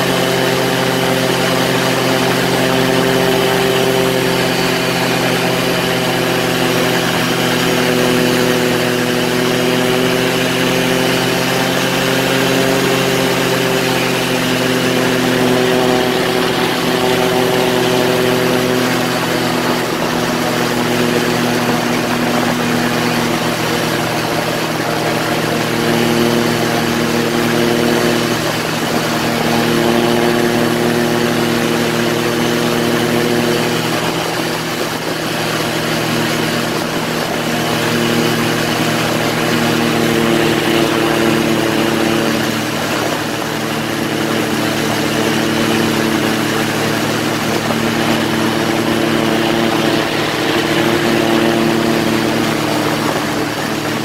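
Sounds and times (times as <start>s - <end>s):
ultralight engine and propeller: 0.0s - 54.0s.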